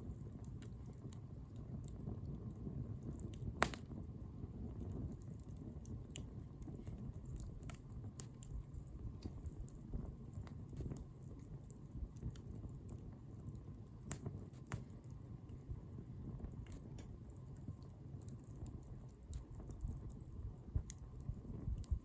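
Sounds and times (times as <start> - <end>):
fire crackling and popping: 0.0 - 22.0
flames rustling: 0.0 - 22.0.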